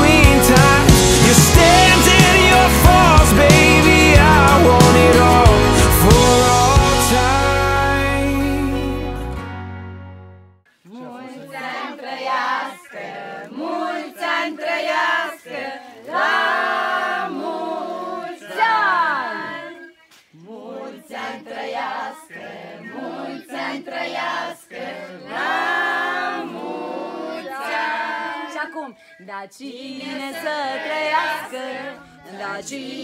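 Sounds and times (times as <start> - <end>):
group singing unaccompanied: 0.0 - 8.1, 10.9 - 33.0.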